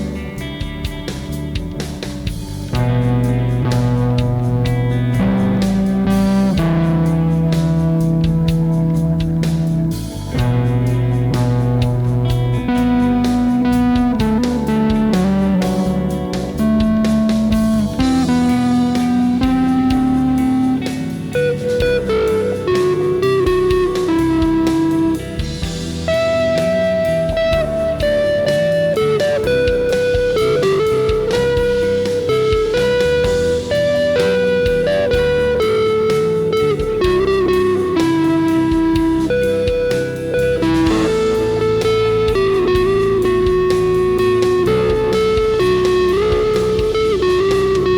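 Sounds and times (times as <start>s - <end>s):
bass guitar: 0.0s - 47.9s
drums: 0.0s - 47.9s
electric guitar melody: 0.0s - 47.9s.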